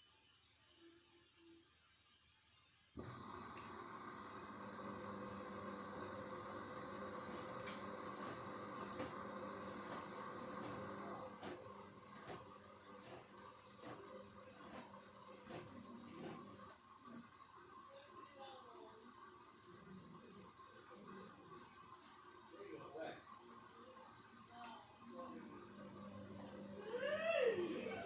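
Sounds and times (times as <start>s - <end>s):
washing machine running: 3.0s - 28.0s.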